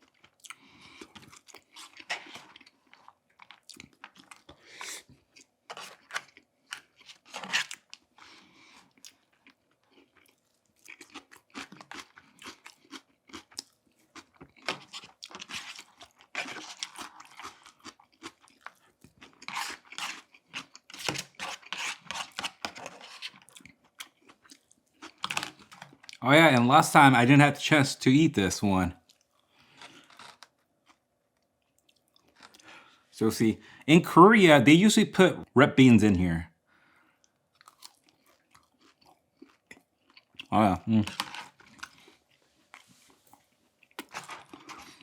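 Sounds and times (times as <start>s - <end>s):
person chewing and crunching food: 0.0s - 27.2s, 29.0s - 33.9s, 36.8s - 45.0s.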